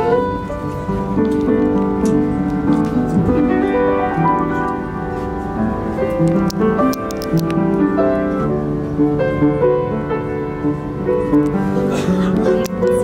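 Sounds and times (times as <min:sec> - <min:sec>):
piano chords and melody: 0:00.0 - 0:13.0.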